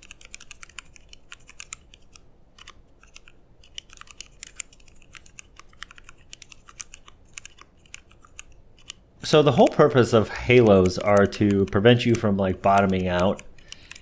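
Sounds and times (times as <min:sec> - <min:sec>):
muted mechanical keyboard typing: 0:00.0 - 0:14.0.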